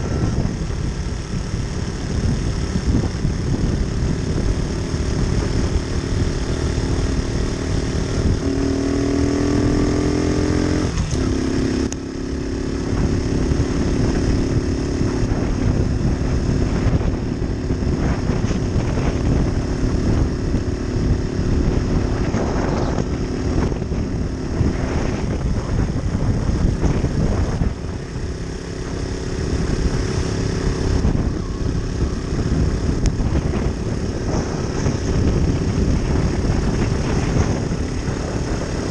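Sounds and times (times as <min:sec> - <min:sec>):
moped engine running: 0:00.0 - 0:38.9
steady rushing noise: 0:00.0 - 0:38.9.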